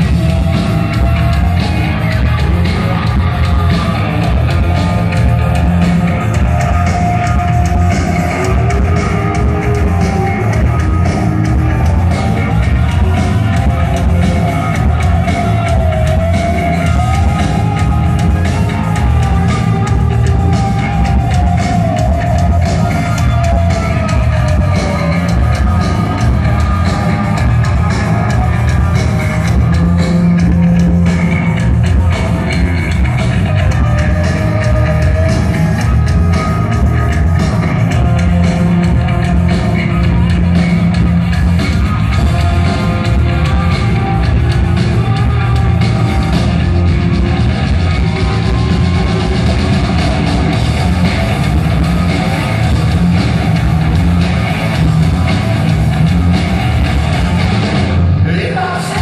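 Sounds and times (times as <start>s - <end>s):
hard rock band playing live: 0.0s - 59.0s.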